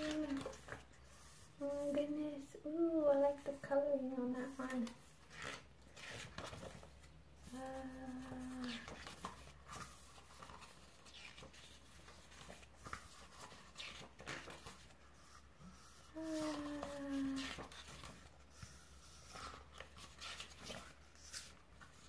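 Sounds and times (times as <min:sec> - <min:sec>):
photobook pages turning: 0:00.0 - 0:02.0, 0:04.4 - 0:22.0.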